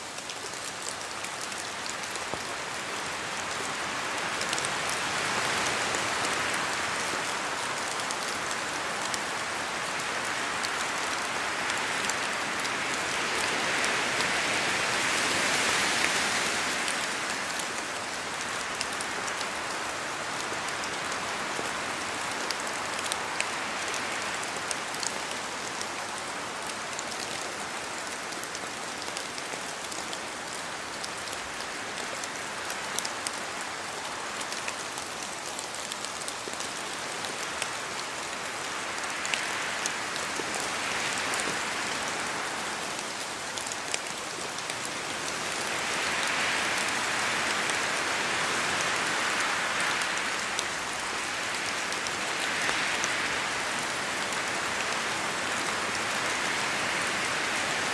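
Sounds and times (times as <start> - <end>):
rain falling through trees: 0.0 - 57.9.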